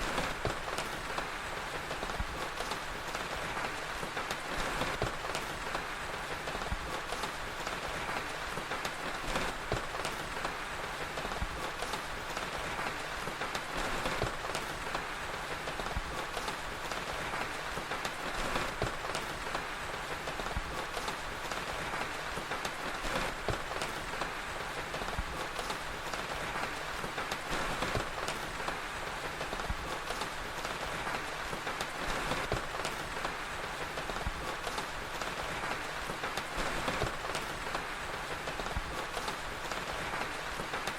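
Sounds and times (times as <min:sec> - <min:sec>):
steady rain falling: 0:00.0 - 0:40.9
wood fire crackling and popping: 0:00.0 - 0:40.9.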